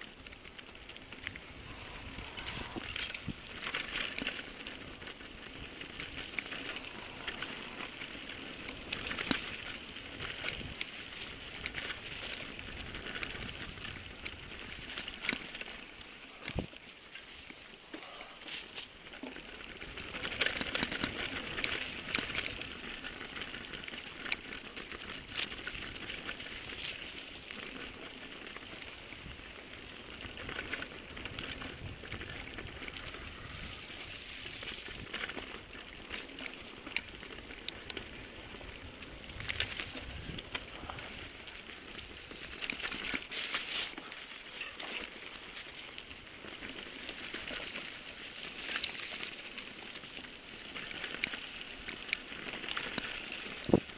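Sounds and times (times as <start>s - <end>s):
bike rattling over bumps: 0.0s - 53.9s
bike tyres crackling on dirt: 0.0s - 53.9s.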